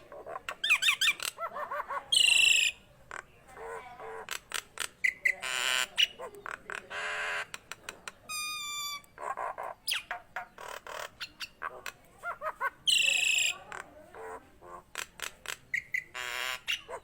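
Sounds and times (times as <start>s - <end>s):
myna calling: 0.0s - 17.0s.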